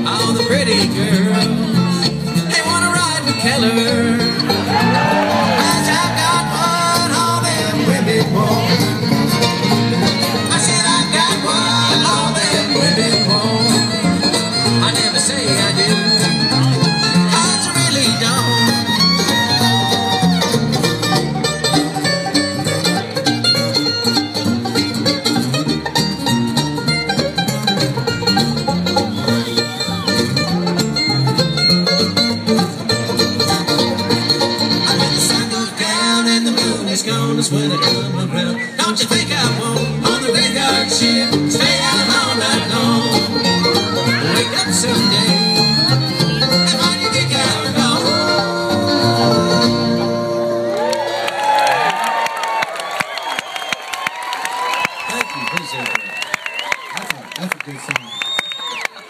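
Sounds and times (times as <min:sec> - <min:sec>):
acoustic guitar: 0:00.0 - 0:51.2
banjo: 0:00.0 - 0:51.2
fiddle: 0:00.0 - 0:51.6.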